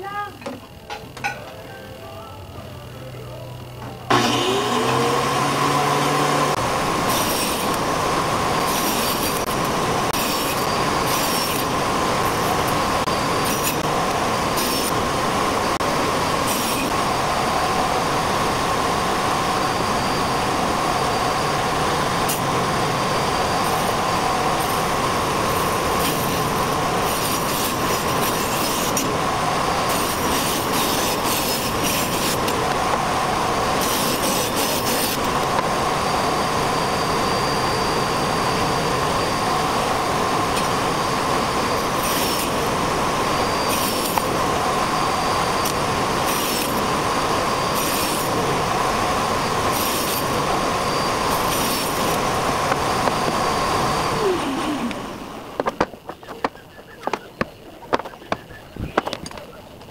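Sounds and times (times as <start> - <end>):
angle grinder whining: 3.2 - 59.9
blade cutting boards: 4.1 - 18.6, 21.0 - 35.7, 39.3 - 59.4.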